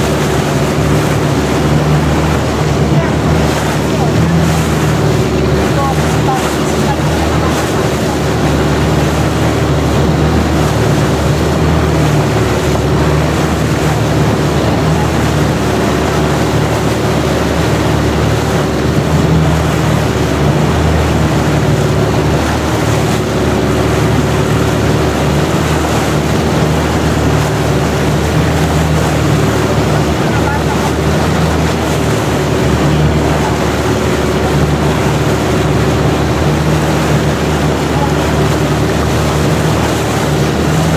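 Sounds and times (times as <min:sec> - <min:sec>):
boat engine running: 0:00.0 - 0:40.9
water rushing along hull: 0:00.0 - 0:40.9.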